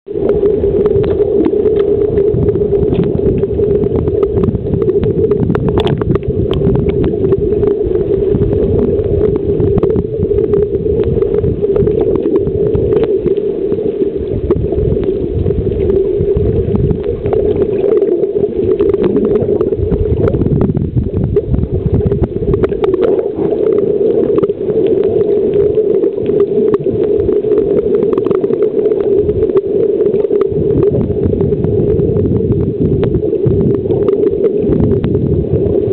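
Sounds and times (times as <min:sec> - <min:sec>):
water sloshing and bubbling: 0:00.0 - 0:35.9
underwater clicks: 0:00.2 - 0:35.8.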